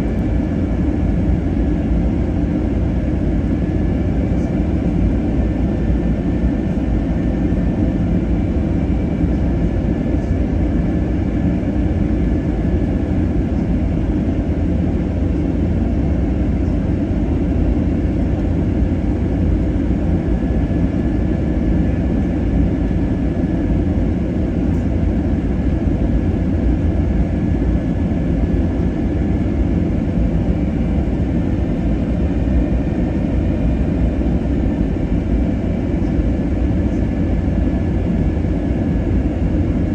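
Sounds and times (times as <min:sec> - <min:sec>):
airliner engines droning: 0:00.0 - 0:39.9.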